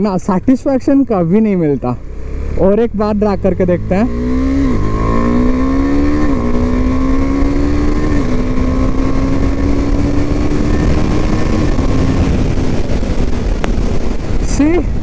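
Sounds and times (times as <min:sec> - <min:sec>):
motorcycle engine accelerating: 0:02.0 - 0:14.8.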